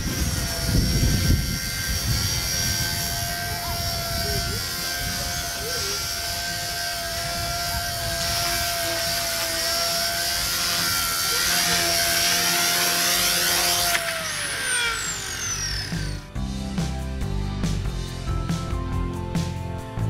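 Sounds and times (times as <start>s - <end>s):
toy helicopter rotor whining: 0.0s - 16.4s.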